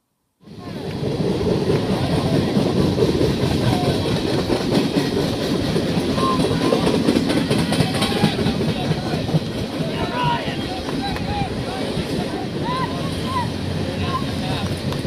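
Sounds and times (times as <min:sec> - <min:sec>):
wind buffeting microphone: 0:00.5 - 0:15.0.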